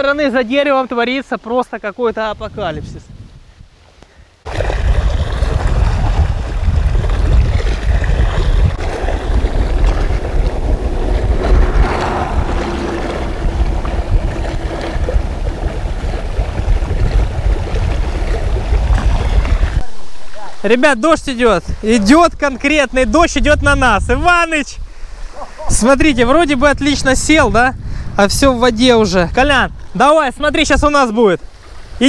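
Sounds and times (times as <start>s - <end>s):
strong wind buffeting microphone: 2.3s - 32.0s.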